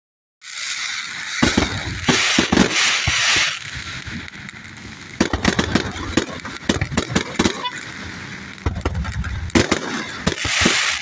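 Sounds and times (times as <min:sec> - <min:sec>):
fireworks hissing and crackling: 0:00.4 - 0:11.0
fireworks sharp pops: 0:00.4 - 0:11.0.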